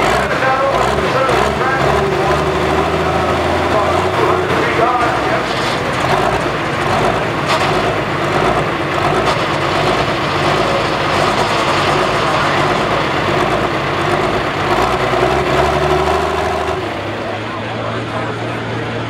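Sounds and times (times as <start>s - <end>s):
turbocharged diesel engine running: 0.0s - 19.0s.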